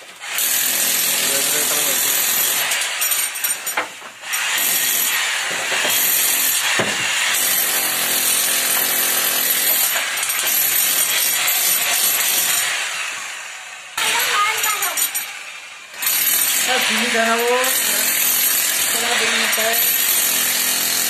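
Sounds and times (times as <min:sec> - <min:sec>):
power tool cutting into brick: 0:00.0 - 0:21.0.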